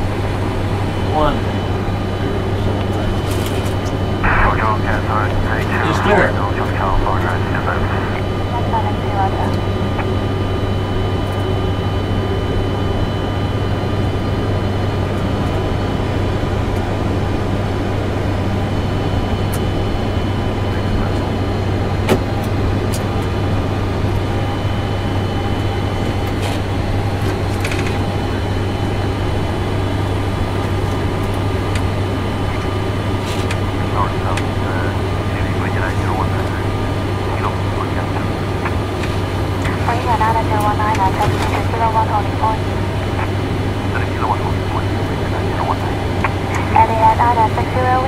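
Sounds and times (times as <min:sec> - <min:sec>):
aircraft engines low hum: 0:00.0 - 0:48.0
faint steady tones: 0:00.0 - 0:48.0.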